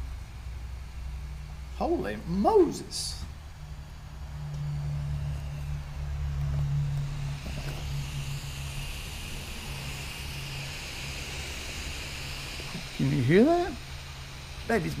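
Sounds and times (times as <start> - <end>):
high hiss: 0.0 - 15.0
small fan buzzing: 0.0 - 15.0.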